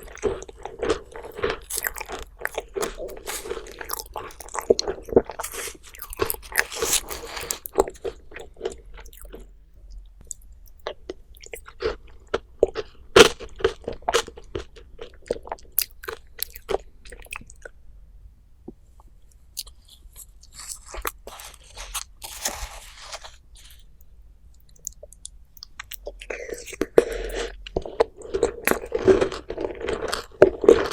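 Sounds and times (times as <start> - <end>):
person chewing crunchy food: 0.0 - 17.8, 19.5 - 30.9.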